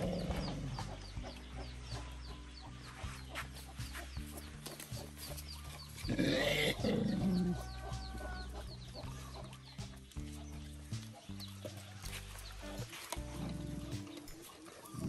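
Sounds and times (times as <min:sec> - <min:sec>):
background music: 0:00.0 - 0:15.0
chickens clucking: 0:00.0 - 0:15.0.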